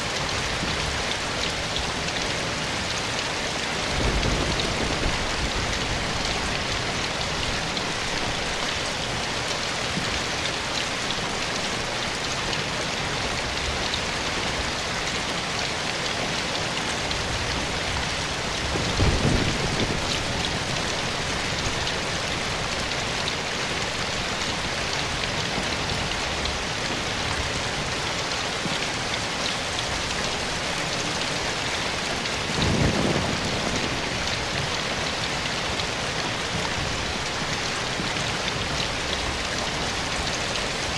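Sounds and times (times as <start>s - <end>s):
soft rain pattering: 0.0s - 40.9s.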